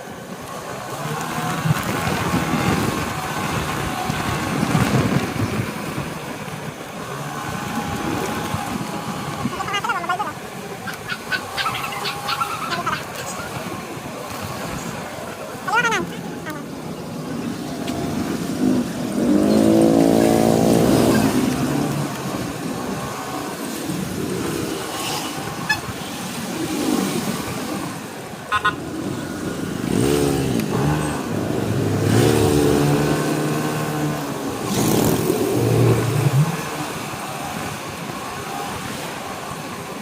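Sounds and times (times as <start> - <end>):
road traffic: 0.0 - 40.0
motorcycle engine revving: 0.5 - 40.0.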